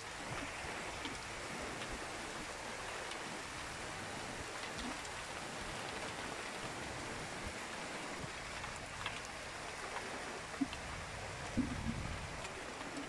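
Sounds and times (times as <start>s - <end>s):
heavy rain on wet pavement: 0.0s - 13.0s.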